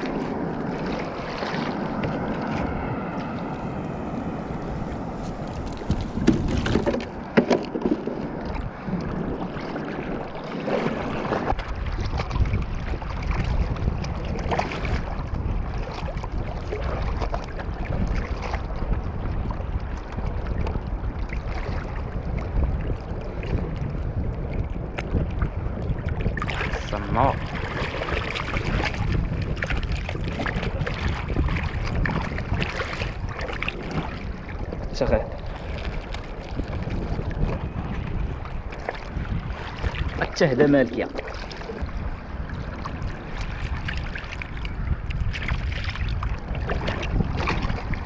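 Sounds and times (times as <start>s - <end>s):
water sloshing and splashing: 0.0s - 48.0s
wind rumbling on microphone: 0.0s - 48.0s.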